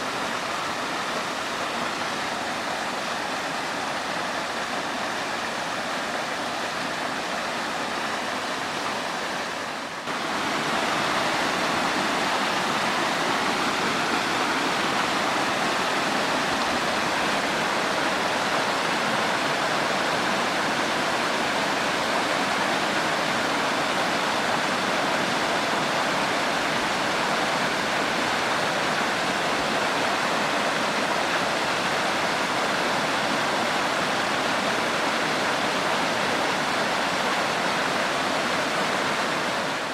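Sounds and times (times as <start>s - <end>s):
waterfall rushing onto rock: 0.0s - 39.9s.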